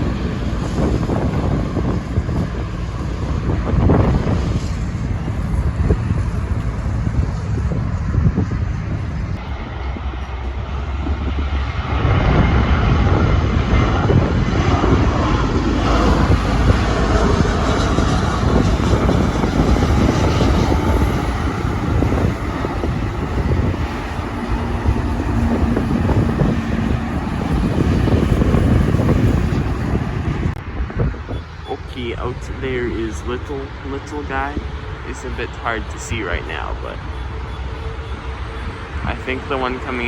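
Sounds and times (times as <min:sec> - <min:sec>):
jet engines rumbling: 0:00.0 - 0:40.0
wind buffeting microphone: 0:00.0 - 0:40.0.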